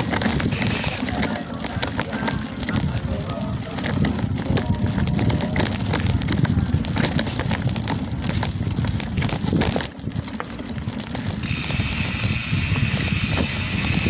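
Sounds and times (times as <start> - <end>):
bicycle frame rattling: 0.0 - 14.0
wind buffeting microphone: 0.0 - 14.0.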